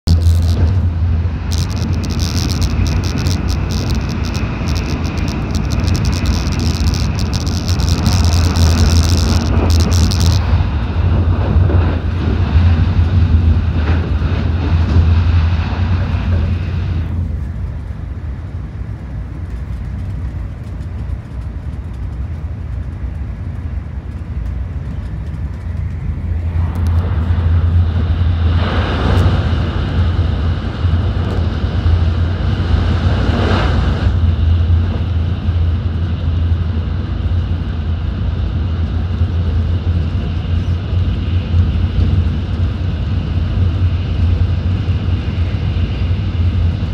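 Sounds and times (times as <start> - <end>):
train running rumble: 0.0 - 46.9.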